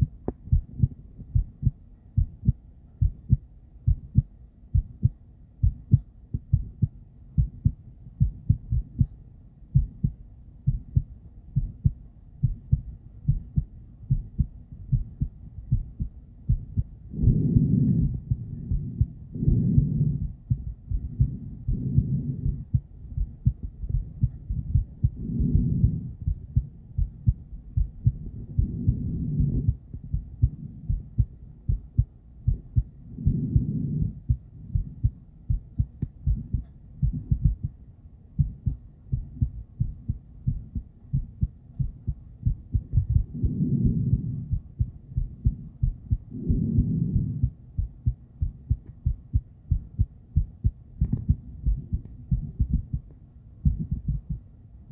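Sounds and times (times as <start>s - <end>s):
doppler heartbeat thumps: 0.0s - 37.8s, 38.4s - 54.5s.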